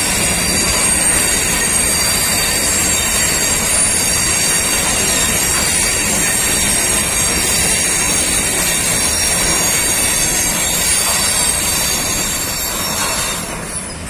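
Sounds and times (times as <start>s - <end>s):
freight train wheels rumbling: 0.0s - 14.0s
high-pitched wheel squeal: 0.0s - 14.0s.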